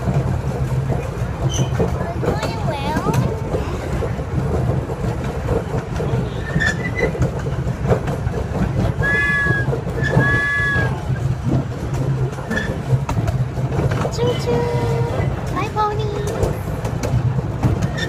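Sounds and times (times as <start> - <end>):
miniature train rumbling on track: 0.0 - 18.0
train cars clicking: 0.0 - 18.0.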